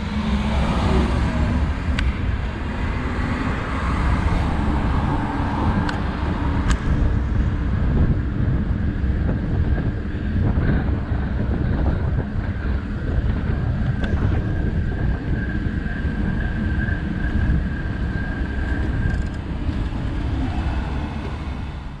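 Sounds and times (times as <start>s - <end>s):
city street traffic: 0.0s - 22.0s
wind noise on microphone: 0.0s - 22.0s.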